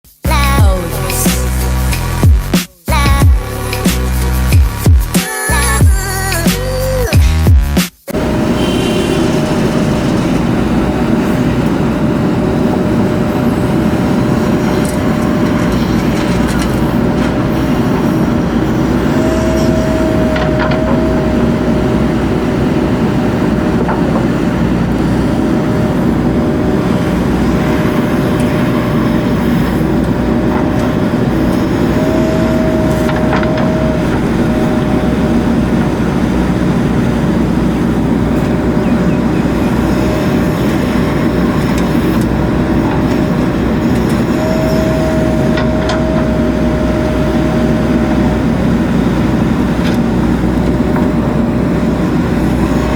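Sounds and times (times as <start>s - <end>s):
engine whine stepping up: 0.1s - 52.9s
diesel engine running loud: 0.3s - 52.9s.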